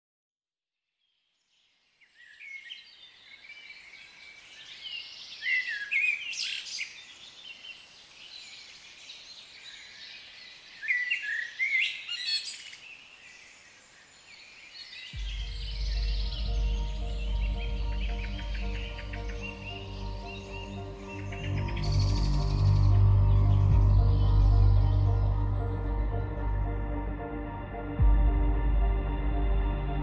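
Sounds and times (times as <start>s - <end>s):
birds singing: 1.4s - 26.8s.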